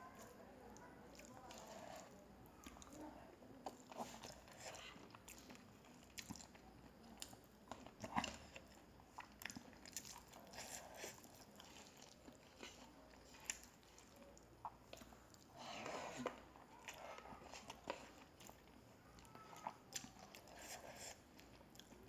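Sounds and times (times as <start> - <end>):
person chewing food: 0.2 - 22.0.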